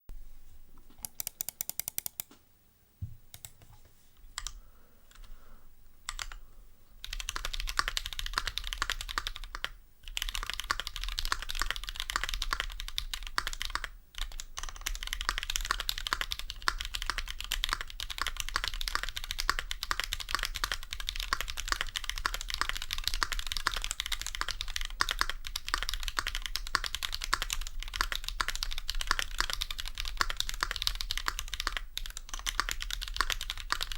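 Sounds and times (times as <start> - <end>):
mechanical keyboard typing: 0.9 - 2.3, 3.3 - 3.7, 6.1 - 6.4, 7.0 - 33.9.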